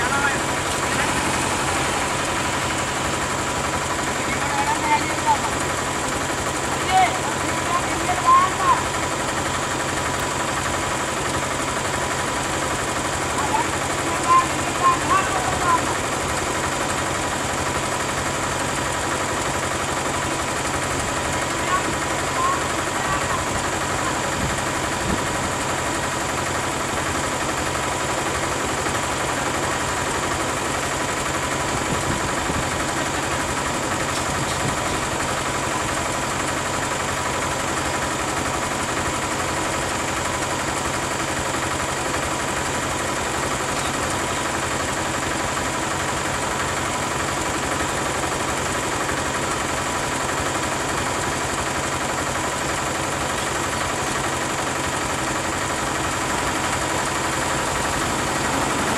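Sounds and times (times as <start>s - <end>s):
bus engine idling: 0.0s - 58.9s.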